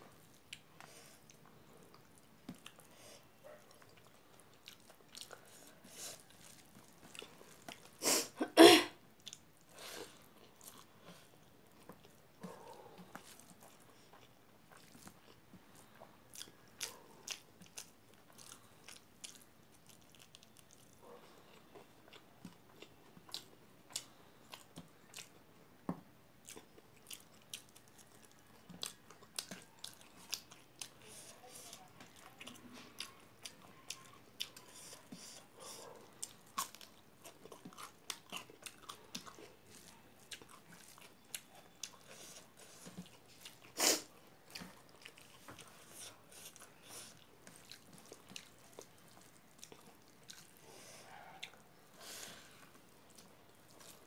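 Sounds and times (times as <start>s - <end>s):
chewing and lip-smacking: 0.2s - 2.9s, 3.5s - 8.0s, 9.2s - 25.4s, 26.4s - 54.0s.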